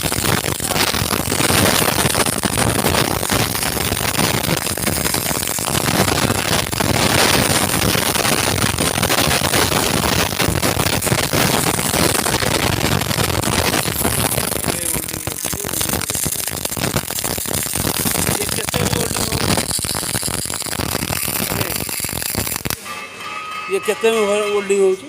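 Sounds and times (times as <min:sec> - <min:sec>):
welding arc crackling: 0:00.0 - 0:23.0.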